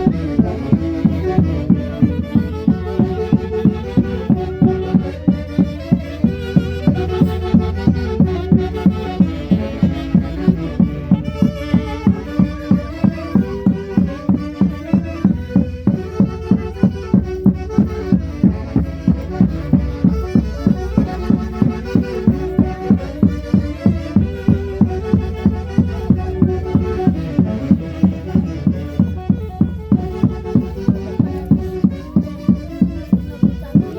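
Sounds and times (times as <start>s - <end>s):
wind instruments melody: 0.0s - 33.9s.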